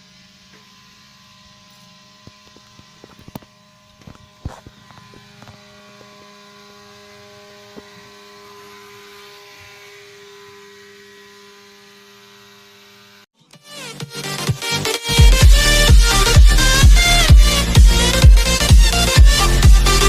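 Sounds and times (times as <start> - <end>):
electrical hum with tones: 0.0 - 13.2, 14.2 - 20.0.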